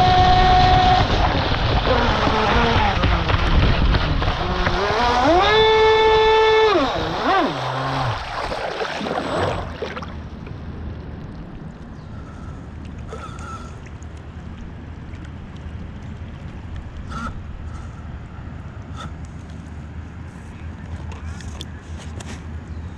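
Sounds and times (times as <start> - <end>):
steady low hum: 0.0 - 22.9
water rushing around boat hull: 0.0 - 22.9
gentle water lapping: 0.4 - 22.9.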